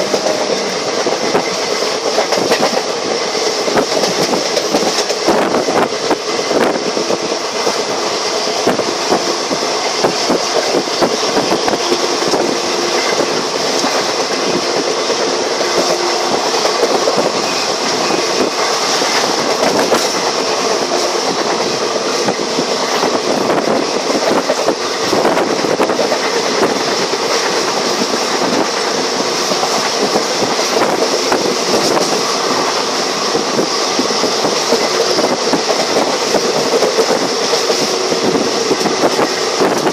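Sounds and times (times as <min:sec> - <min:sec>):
rail-joint clickety-clack: 0:00.0 - 0:39.9
train wheels rumbling on rails: 0:00.0 - 0:39.9.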